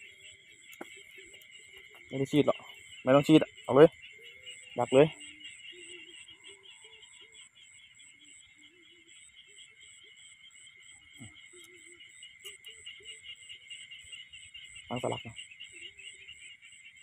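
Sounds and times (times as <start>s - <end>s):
frog calls: 0.0s - 17.0s
insects trilling: 0.0s - 17.0s.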